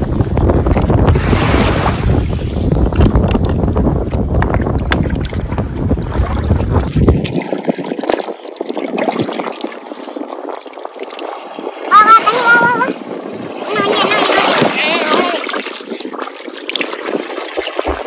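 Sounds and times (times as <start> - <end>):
surf on shore: 0.0 - 18.0
wind buffeting microphone: 0.0 - 18.0.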